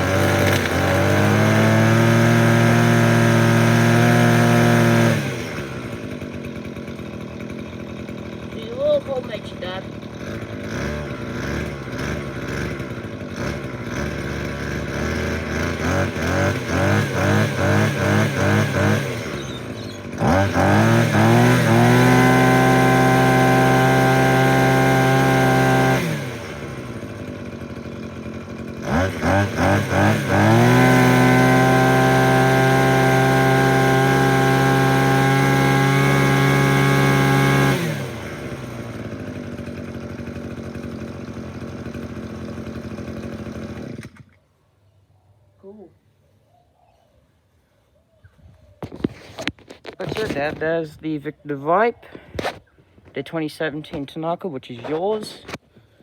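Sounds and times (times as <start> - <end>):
brushcutter engine idling and revving: 0.0 - 44.5, 48.8 - 56.0.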